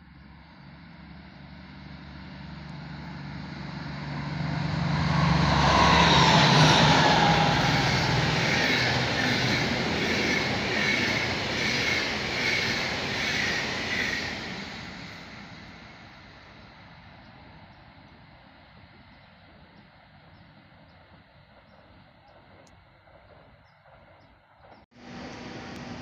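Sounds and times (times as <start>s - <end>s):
diesel locomotive engines droning: 0.0s - 26.0s
train wheels rumbling and clattering: 3.9s - 26.0s.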